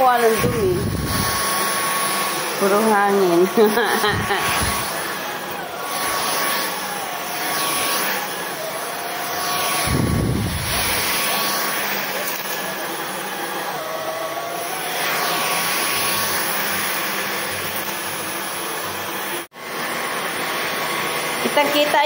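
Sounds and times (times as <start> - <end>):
stick vacuum running on carpet: 0.0 - 22.0.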